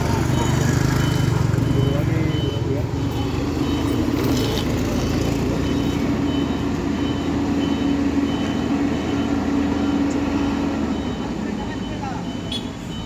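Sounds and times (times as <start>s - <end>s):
heavy truck engine running: 0.0s - 13.0s
reversing alarm beeping: 0.0s - 13.0s.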